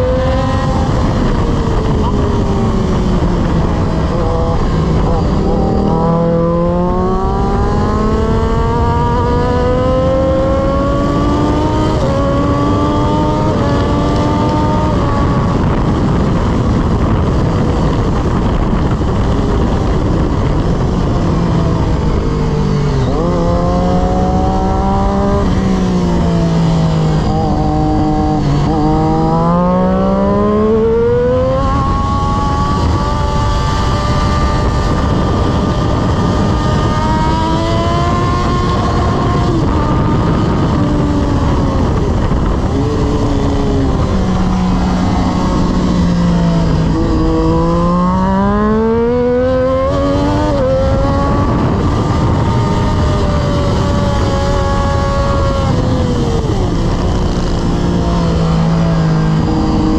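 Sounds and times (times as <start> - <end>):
heavy wind rush: 0.0 - 59.9
motorcycle engine revving: 0.0 - 59.9.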